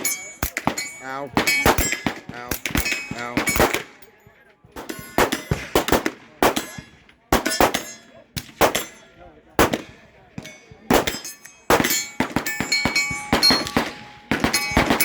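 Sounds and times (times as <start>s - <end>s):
gunshots: 0.0s - 4.0s, 4.8s - 15.0s
bullets clanging on steel targets: 0.0s - 4.2s, 4.8s - 15.0s.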